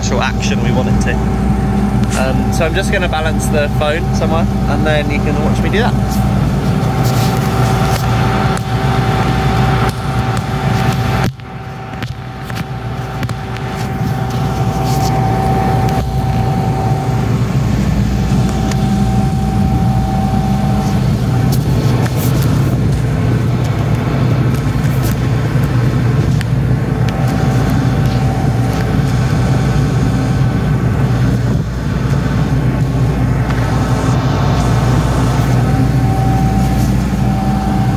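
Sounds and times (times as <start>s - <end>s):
harvester engine running: 0.0s - 37.9s.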